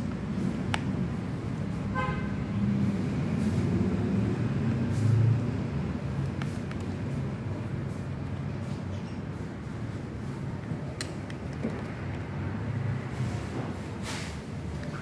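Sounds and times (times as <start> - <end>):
road traffic rumbling: 0.0 - 15.0.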